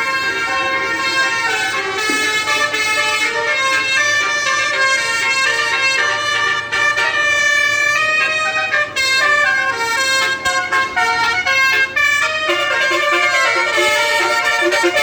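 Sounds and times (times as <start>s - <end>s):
bus musical horn playing tune: 0.0s - 15.0s.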